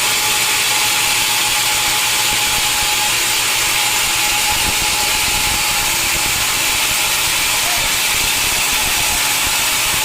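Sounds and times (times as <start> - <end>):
sawmill saw cutting log: 0.0 - 10.0.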